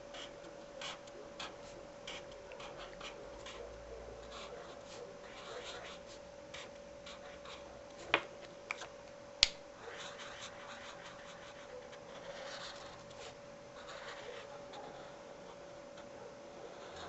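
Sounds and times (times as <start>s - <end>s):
marker scratching on paper: 0.1s - 8.2s, 9.8s - 15.2s, 16.7s - 17.0s.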